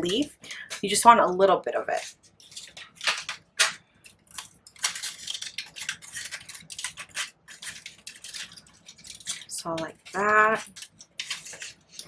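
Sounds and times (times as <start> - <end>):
paper rustling and crinkling: 1.9 - 12.0.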